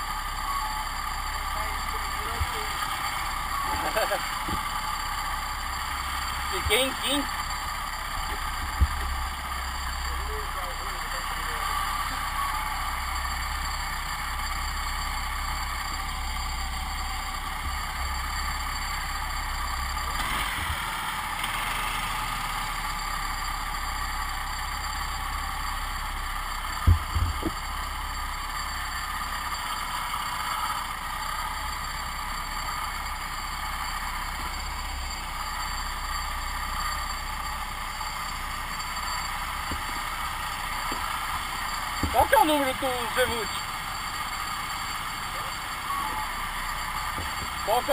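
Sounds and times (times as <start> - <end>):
go-kart engine running: 0.0 - 47.9.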